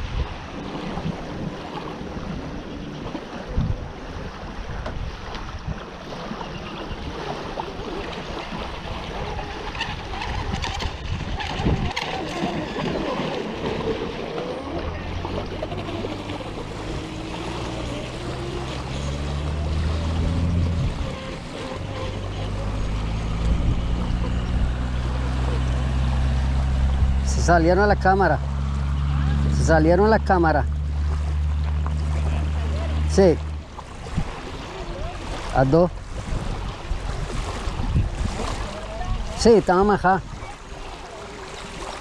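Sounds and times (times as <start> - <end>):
wind rumble on microphone: 0.0 - 29.8, 30.6 - 42.0
small waves lapping gravel shore: 0.0 - 42.0
model boat motor: 0.4 - 42.0.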